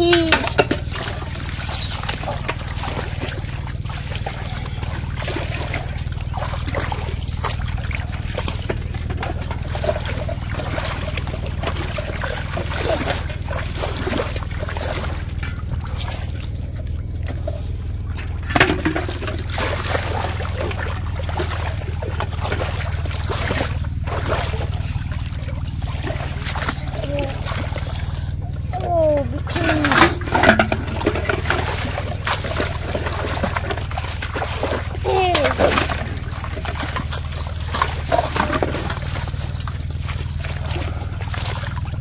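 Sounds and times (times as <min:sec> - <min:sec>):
steady low hum: 0:00.0 - 0:42.0
water splashing and trickling: 0:00.0 - 0:42.0.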